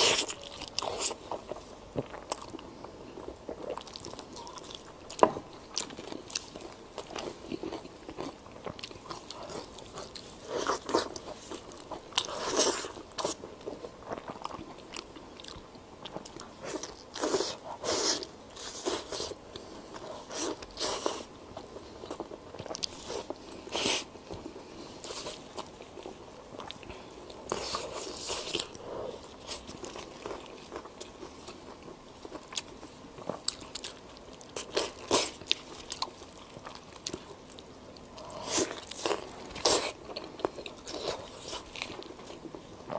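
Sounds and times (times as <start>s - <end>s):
chewing meat: 0.0s - 42.9s.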